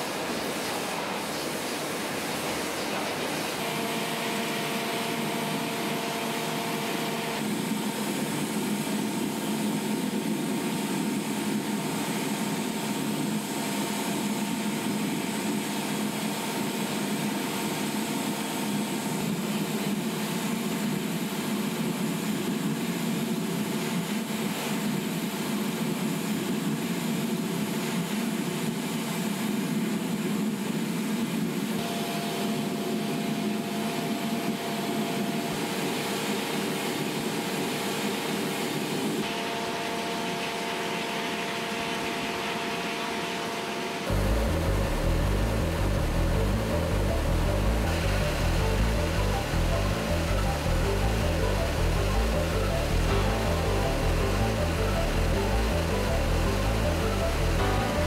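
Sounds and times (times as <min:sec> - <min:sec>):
furnace fire and blowers rushing: 0:00.0 - 0:58.0
steady humming tones: 0:00.0 - 0:58.0.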